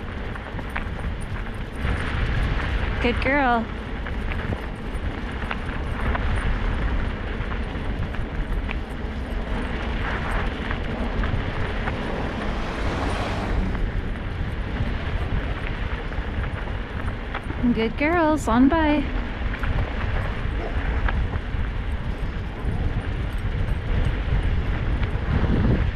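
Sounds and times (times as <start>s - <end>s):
scooter rumbling over snow: 0.0s - 25.9s
wind on microphone: 0.0s - 25.9s.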